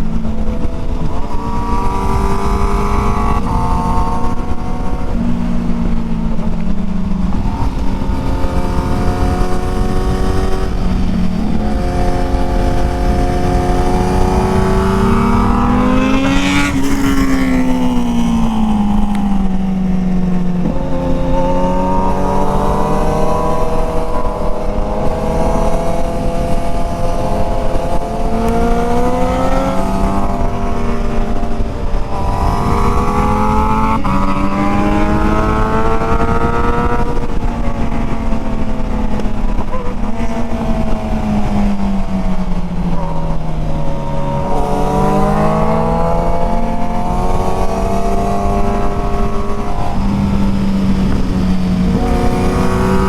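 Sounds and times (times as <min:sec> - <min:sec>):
motorcycle engine shifting gears: 0:00.0 - 0:53.0
wind rush: 0:00.0 - 0:53.0.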